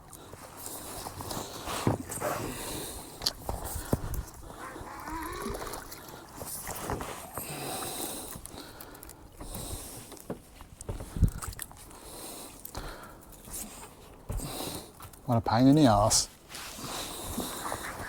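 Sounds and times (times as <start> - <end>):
water sloshing against boat hull: 0.4 - 15.2.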